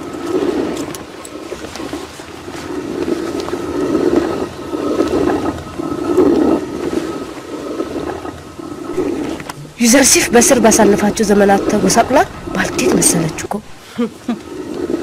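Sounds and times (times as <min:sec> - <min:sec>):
stone hand mill grinding: 0:00.0 - 0:13.8.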